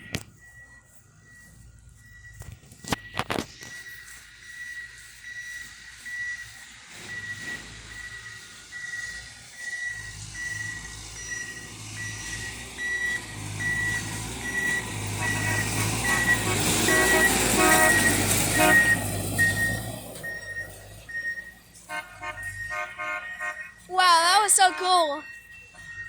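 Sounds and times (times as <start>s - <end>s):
electronic warning beeps: 0.0s - 26.0s
rail vehicle passing on track: 4.2s - 26.0s.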